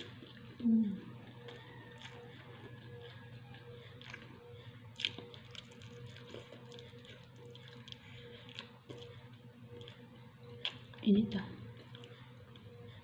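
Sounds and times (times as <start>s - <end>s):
person chewing food: 0.0s - 11.0s, 11.6s - 13.0s
steady low hum: 0.0s - 13.0s.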